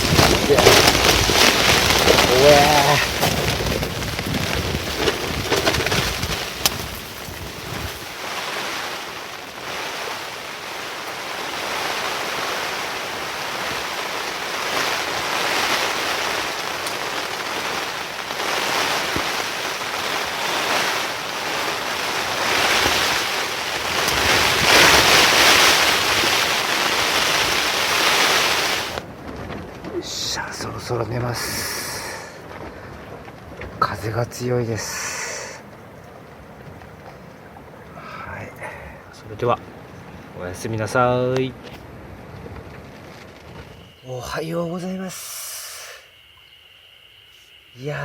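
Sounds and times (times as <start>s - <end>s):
gusting wind and rain: 0.0s - 48.0s.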